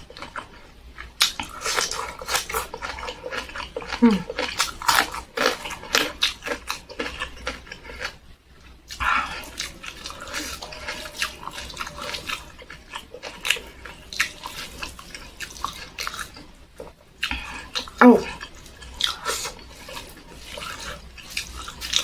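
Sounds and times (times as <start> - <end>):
wet chewing with mouth clicks: 0.0 - 22.0.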